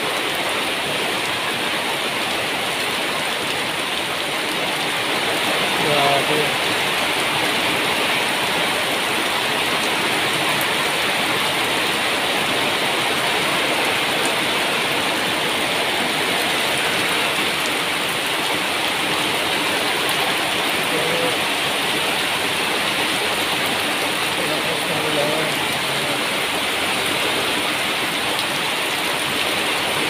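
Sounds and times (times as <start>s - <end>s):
heavy rain on metal roofs: 0.0s - 30.0s.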